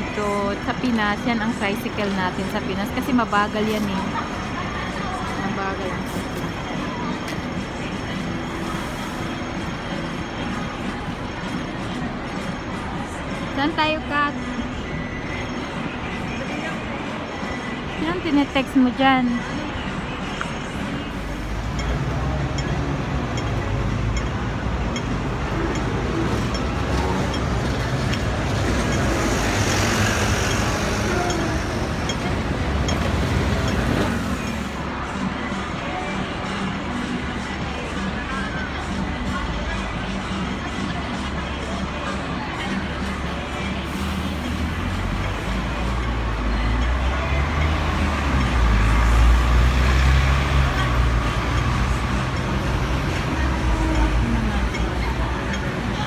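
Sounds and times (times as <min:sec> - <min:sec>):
bus passing close: 0:00.0 - 0:56.0
rumble of vehicles: 0:00.0 - 0:56.0.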